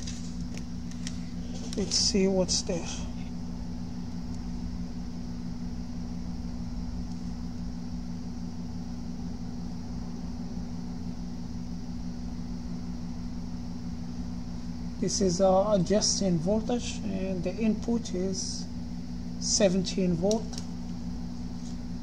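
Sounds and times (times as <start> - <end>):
low machine hum with hiss: 0.0 - 22.0.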